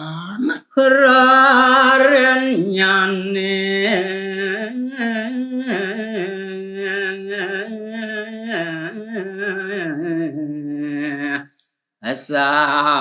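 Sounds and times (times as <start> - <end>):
solo voice singing: 0.0 - 13.0.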